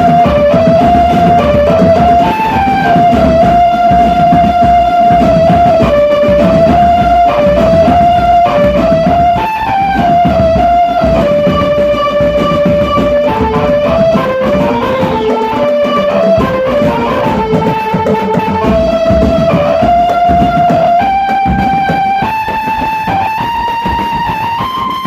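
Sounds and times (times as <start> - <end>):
continuous drumming: 0.0 - 25.0
melody line: 0.0 - 25.0.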